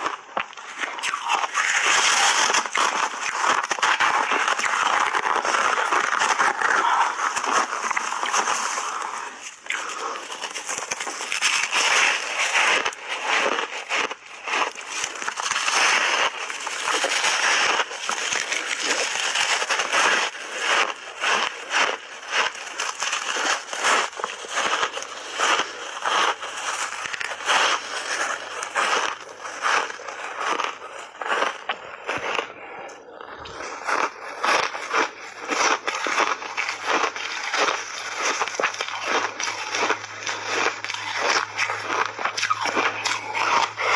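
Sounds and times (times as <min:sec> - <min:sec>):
crunching of shaved ice being chewed: 0:00.0 - 0:43.9.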